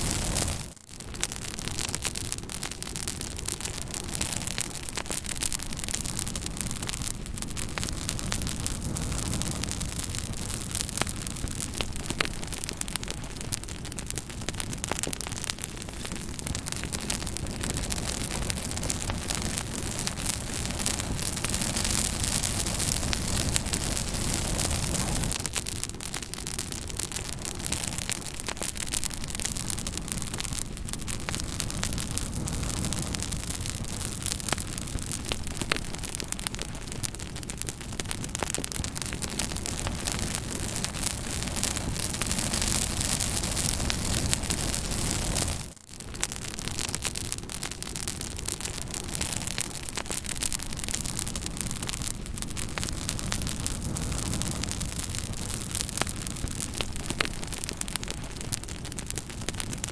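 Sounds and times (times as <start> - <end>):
fire crackling with pops: 0.0 - 59.9.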